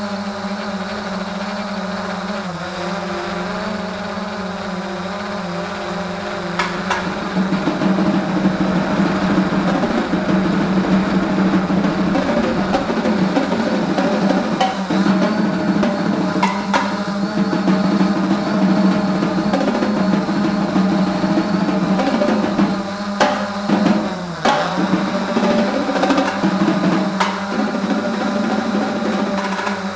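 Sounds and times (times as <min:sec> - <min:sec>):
drone propellers buzzing: 0:00.0 - 0:29.9.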